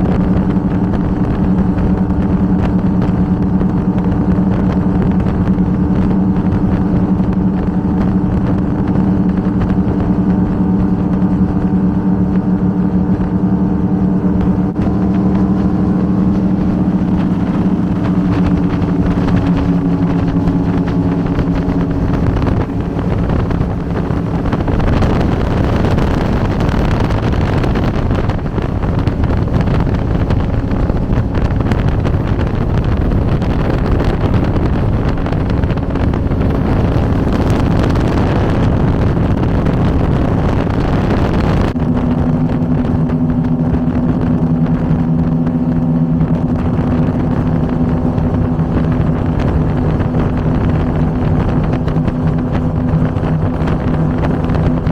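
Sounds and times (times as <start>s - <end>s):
powerboat engines running: 0.0s - 54.9s
rushing wind and water: 0.0s - 54.9s.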